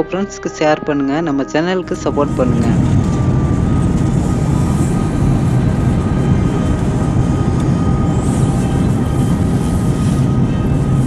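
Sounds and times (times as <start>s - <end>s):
jet engine rumble with whine: 0.0s - 11.0s.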